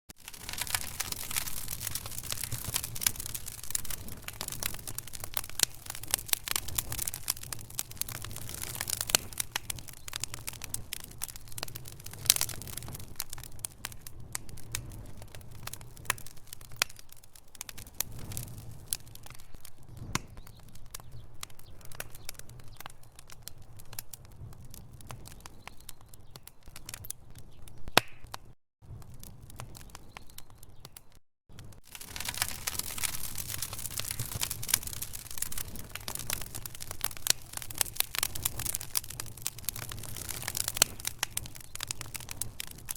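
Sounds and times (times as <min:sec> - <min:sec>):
low rumble of flames: 0:00.1 - 0:42.9
wood fire crackling: 0:00.1 - 0:42.9.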